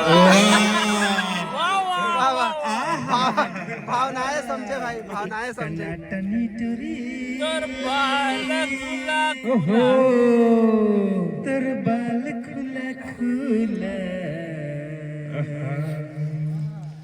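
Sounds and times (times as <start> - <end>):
man singing chant-like notes: 0.0 - 17.0.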